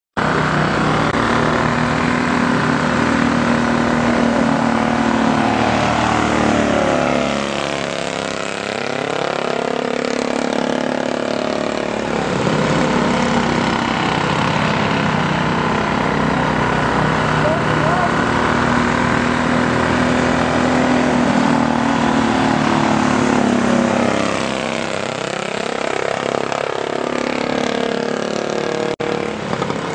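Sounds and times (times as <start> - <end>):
race car engines at speed: 0.2 - 29.9.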